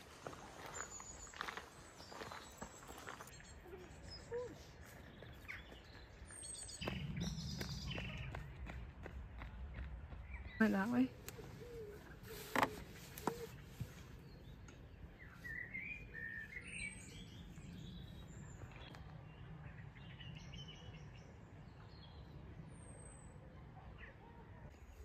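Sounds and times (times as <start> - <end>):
songbirds chirping and singing: 0.3 - 25.0.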